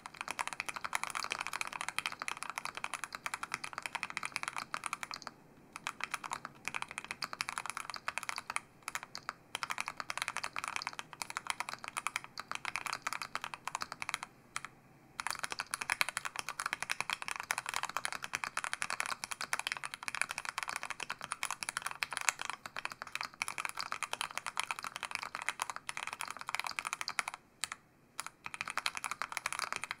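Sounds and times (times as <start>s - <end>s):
fast keyboard typing: 0.0s - 30.0s.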